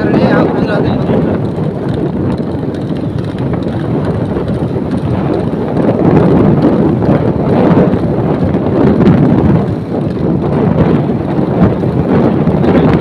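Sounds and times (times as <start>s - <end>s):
motorcycle engines running: 0.0s - 13.0s
wind buffeting microphone: 0.0s - 13.0s.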